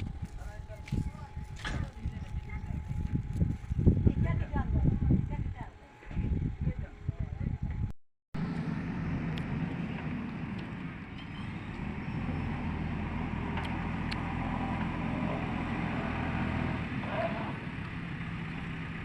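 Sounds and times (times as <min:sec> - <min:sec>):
heavy diesel engine running: 0:00.0 - 0:07.8, 0:08.4 - 0:19.0.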